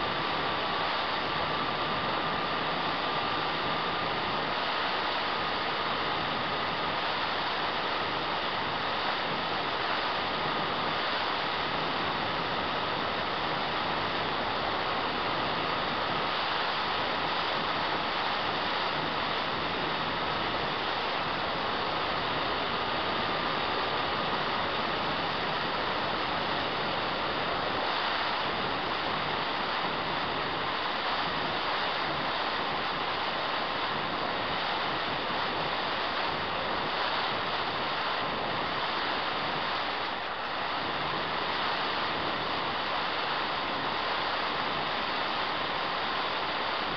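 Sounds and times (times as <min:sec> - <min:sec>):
thin electric motor whine: 0:00.0 - 0:46.9.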